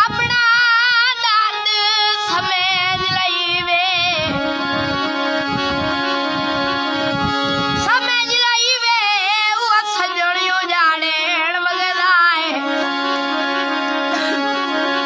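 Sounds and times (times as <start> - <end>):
boy singing: 0.0 - 15.0
harmonium chords: 0.0 - 15.0.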